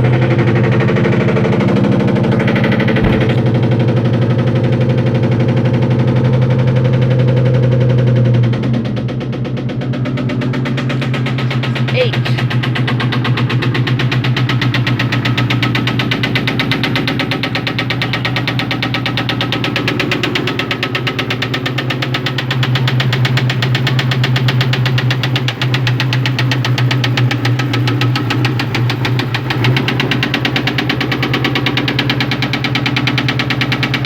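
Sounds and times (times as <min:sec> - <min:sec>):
car engine with rod knock: 0:00.1 - 0:05.8, 0:08.3 - 0:34.0.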